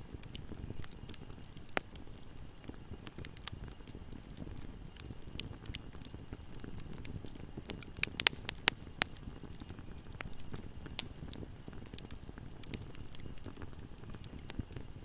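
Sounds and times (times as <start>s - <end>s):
sharp pops from fire: 0.0s - 15.0s
wood fire crackling: 0.0s - 15.0s.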